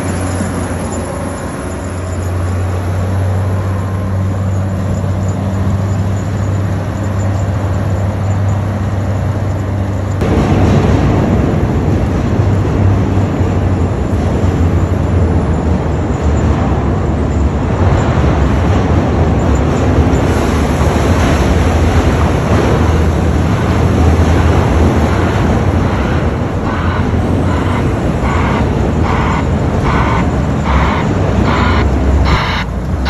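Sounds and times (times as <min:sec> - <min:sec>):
wheel loader diesel engine: 0:00.0 - 0:33.0.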